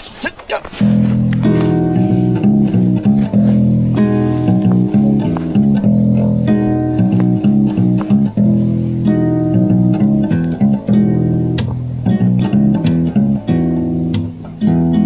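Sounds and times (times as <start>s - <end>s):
guitar strumming: 0.6s - 15.0s.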